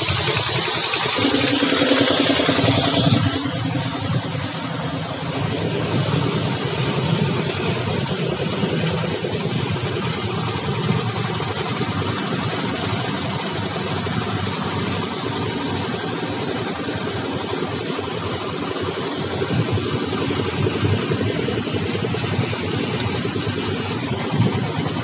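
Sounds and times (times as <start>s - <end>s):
construction machine engine running: 0.0s - 25.0s.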